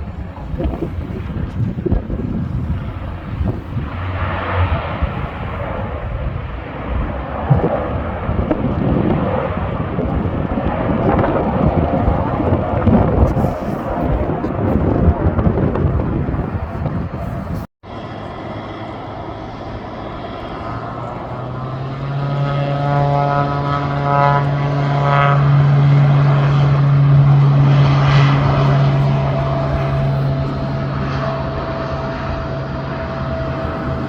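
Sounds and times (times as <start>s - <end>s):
propeller airplane engines droning: 0.0s - 34.0s.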